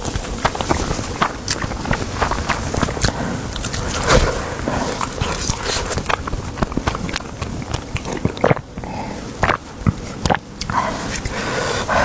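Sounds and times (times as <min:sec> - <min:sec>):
wet chewing mouth sounds: 0:00.0 - 0:12.0.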